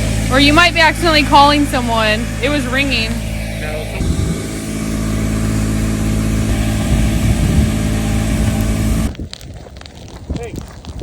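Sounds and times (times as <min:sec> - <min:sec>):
car engine running: 0:00.0 - 0:09.2
road noise: 0:00.0 - 0:09.3.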